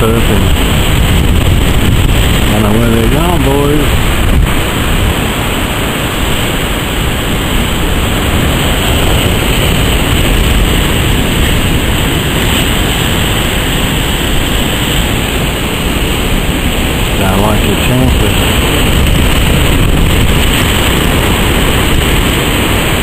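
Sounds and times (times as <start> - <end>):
heavy surf crashing on rocks: 0.0 - 23.0.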